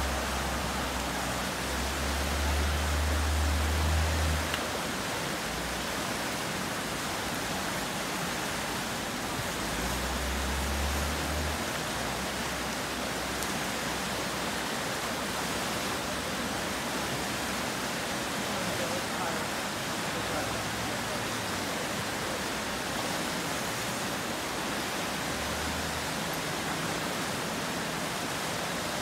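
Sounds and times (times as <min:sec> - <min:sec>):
creek water rushing through rapids: 0:00.0 - 0:29.0.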